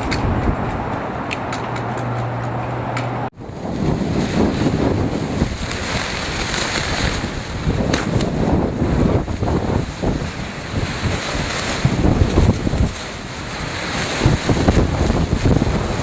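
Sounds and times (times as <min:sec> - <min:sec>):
wind blowing across microphone: 0:00.0 - 0:02.3, 0:03.3 - 0:16.0.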